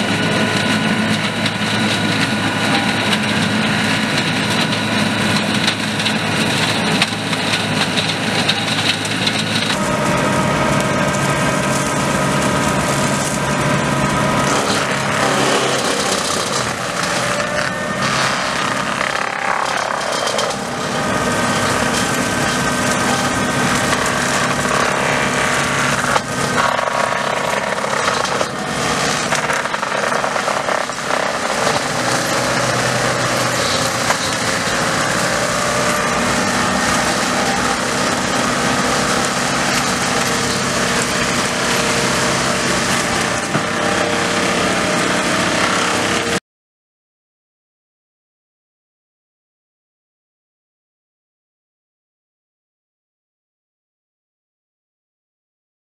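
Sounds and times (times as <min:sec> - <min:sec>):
mulcher rotor grinding brush: 0:00.0 - 0:46.4
tractor engine droning: 0:00.0 - 0:46.4.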